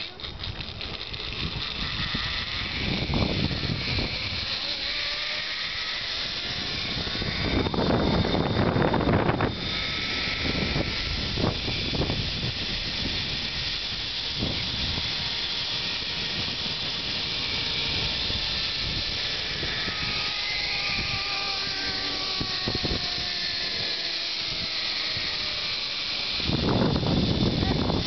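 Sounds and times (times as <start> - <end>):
faint falling whine: 0.0 - 28.0
zipline trolley hissing on cable: 0.0 - 28.0.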